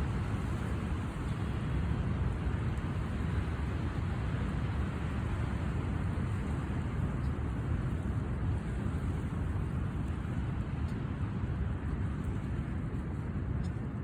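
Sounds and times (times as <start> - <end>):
floodwater rushing through a dam: 0.0 - 14.0.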